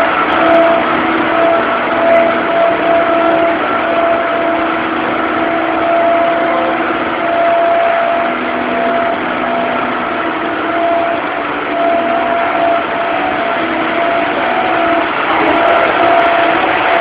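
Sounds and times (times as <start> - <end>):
fire truck diesel engine idling: 0.0 - 17.0.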